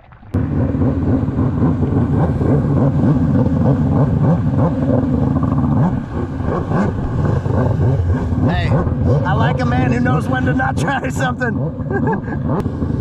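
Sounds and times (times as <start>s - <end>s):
water rushing: 0.0s - 13.0s
jet ski engine revving: 0.4s - 13.0s.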